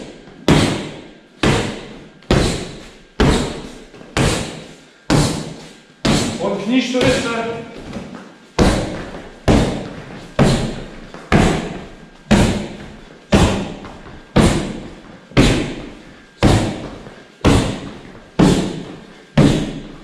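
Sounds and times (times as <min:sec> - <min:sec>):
knee strikes slapping pad: 0:00.0 - 0:20.0.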